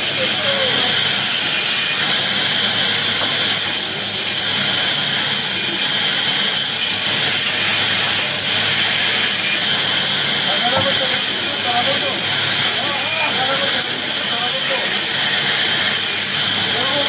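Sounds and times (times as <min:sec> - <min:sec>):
band saw cutting timber: 0:00.0 - 0:17.0.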